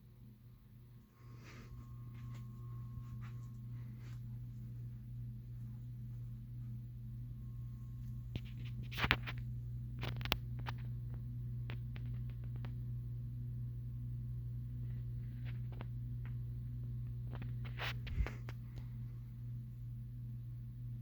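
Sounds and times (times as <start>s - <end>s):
ceiling fan motor hum: 0.0s - 21.0s.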